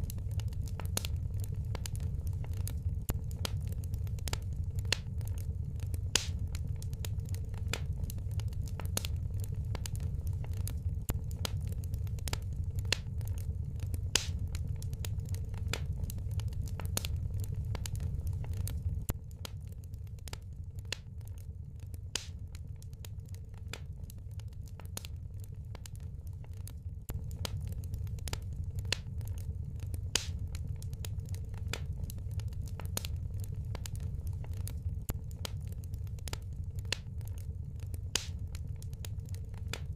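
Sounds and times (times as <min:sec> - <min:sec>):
low rumble: 0:00.0 - 0:39.9
wood fire crackling and popping: 0:00.0 - 0:39.9.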